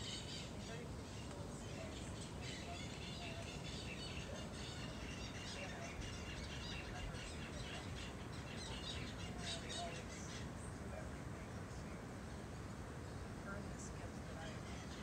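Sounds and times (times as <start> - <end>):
low background noise: 0.0 - 15.0
wild birds chirping: 0.0 - 15.0.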